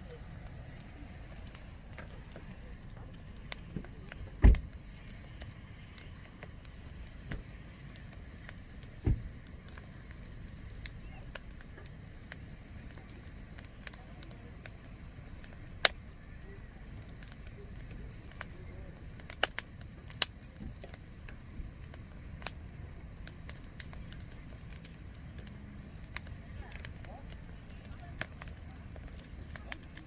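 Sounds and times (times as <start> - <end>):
campfire crackling and popping: 0.0 - 30.0
low steady rumble: 0.0 - 30.0.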